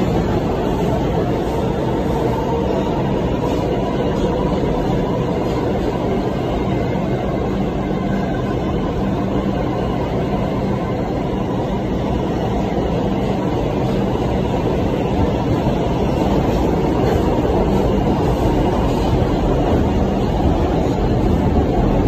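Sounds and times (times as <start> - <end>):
steady hum: 0.0 - 22.0
subway train wheels rumbling: 0.0 - 22.0.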